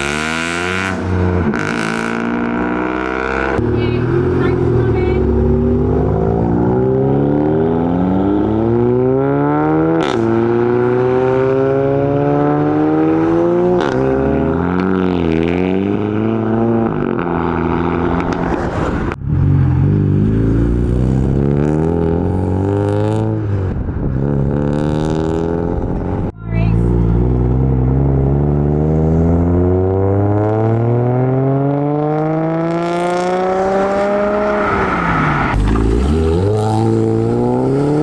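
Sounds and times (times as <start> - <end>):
car engine accelerating hard: 0.0 - 38.0
engine revving up and down: 0.0 - 38.0.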